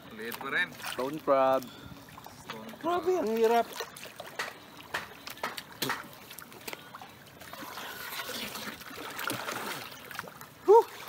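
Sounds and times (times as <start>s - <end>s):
water splashing: 0.0s - 11.0s
water trickling: 0.0s - 11.0s.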